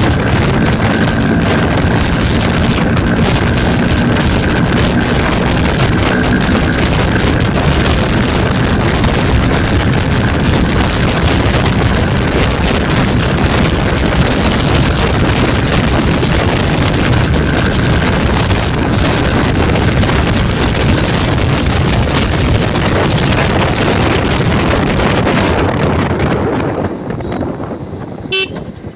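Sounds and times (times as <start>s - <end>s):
motorcycle engine and road noise: 0.0s - 28.9s
wind rushing over microphone: 0.0s - 28.9s.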